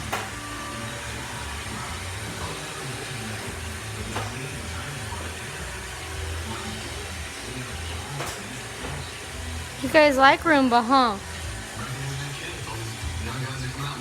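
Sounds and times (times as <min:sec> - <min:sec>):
robot vacuum running: 0:00.0 - 0:14.0.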